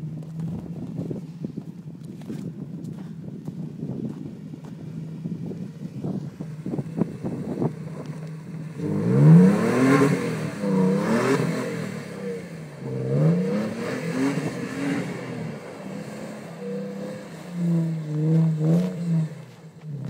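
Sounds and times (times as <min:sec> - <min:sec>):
pickup engine revving: 0:00.0 - 0:20.0.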